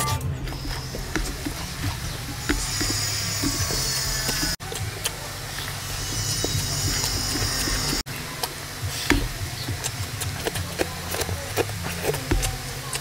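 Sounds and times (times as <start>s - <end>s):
steady low hum: 0.0s - 13.0s
wet chewing and lip-smacking: 0.5s - 13.0s.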